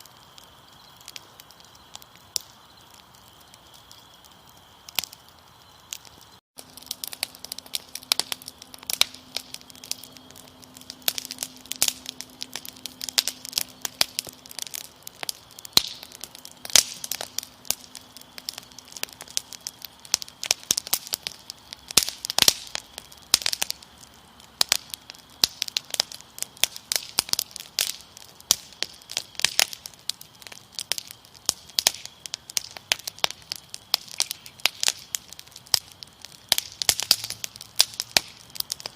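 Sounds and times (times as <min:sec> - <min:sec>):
crickets trilling: 0:00.0 - 0:38.9
wood fire crackling and popping: 0:00.0 - 0:38.9.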